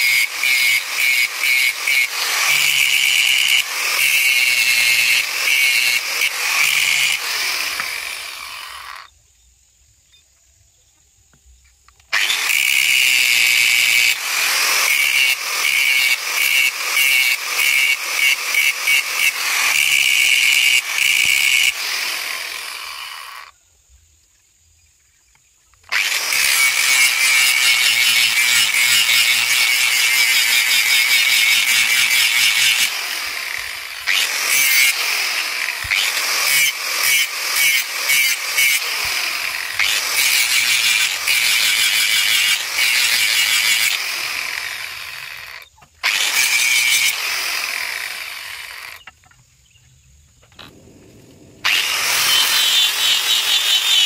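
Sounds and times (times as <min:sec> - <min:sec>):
angle grinder grinding metal: 0:00.0 - 0:09.1, 0:12.2 - 0:23.5, 0:25.9 - 0:49.2, 0:51.6 - 0:54.0.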